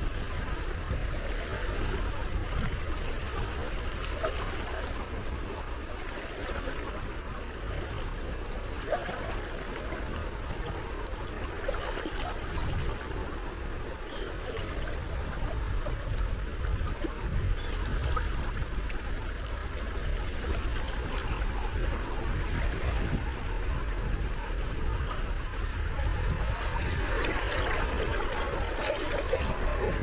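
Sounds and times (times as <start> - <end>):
small waves lapping: 0.0 - 30.0.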